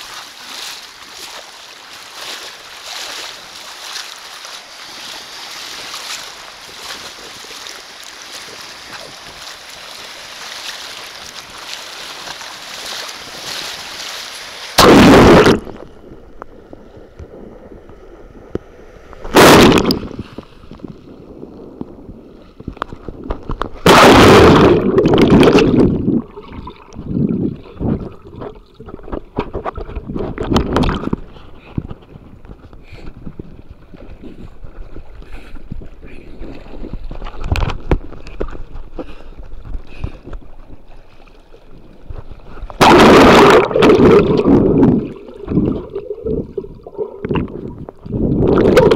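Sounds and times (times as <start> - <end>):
surf washing: 0.0 - 32.0, 32.7 - 48.9
water breaking over microphone: 0.0 - 48.9.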